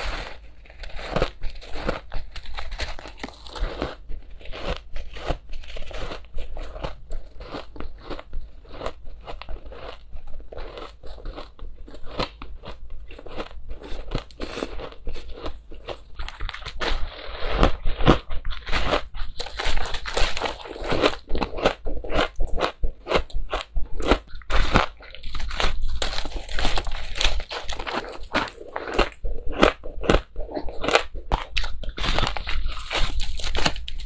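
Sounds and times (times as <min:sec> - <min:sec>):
crunching ice being chewed: 0:00.0 - 0:34.0.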